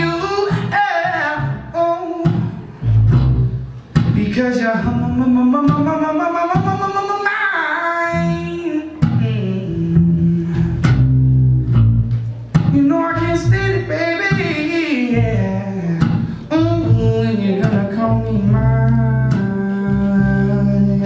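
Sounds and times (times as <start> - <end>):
man singing: 0.0 - 2.8, 4.0 - 11.0, 12.6 - 21.0
plucked double bass: 0.0 - 21.0.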